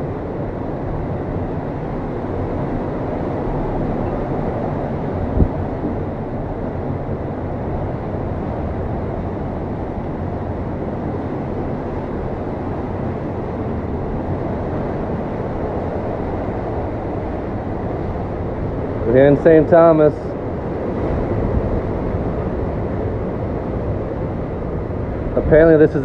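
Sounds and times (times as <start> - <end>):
strong wind rushing: 0.0 - 26.0.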